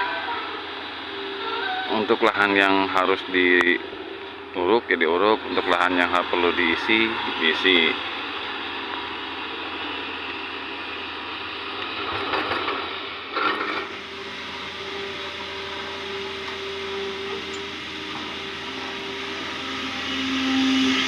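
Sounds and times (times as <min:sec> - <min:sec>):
excavator engine and hydraulics: 0:00.0 - 0:21.0
hydraulic whine: 0:00.0 - 0:21.0.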